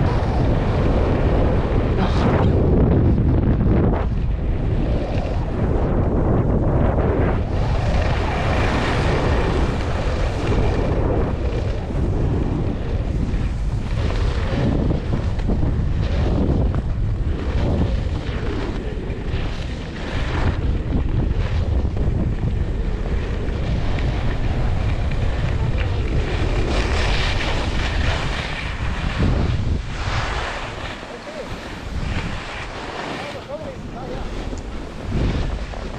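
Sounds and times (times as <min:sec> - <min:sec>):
wind buffeting microphone: 0:00.0 - 0:35.9
skis scraping across snow: 0:00.1 - 0:35.9.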